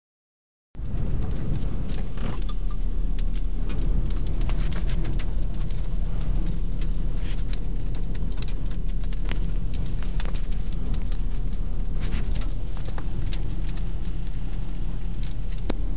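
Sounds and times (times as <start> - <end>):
rain ticking on windshield: 0.8 - 15.9
storm wind rumble: 0.8 - 15.9.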